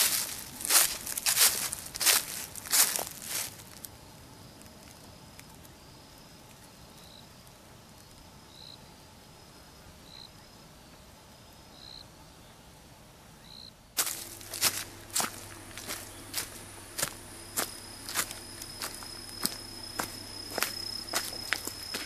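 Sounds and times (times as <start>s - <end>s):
insect chirp: 0.0s - 22.0s
insects trilling: 0.0s - 22.0s.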